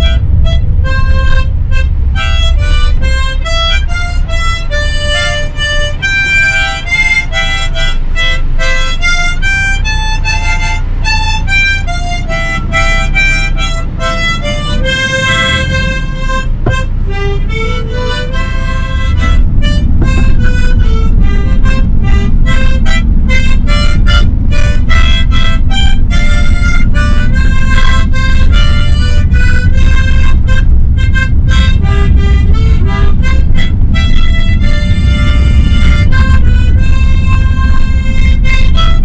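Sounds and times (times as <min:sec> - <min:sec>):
harmonica playing a tune: 0:00.0 - 0:39.0
van engine and tyres rumbling: 0:00.0 - 0:39.0.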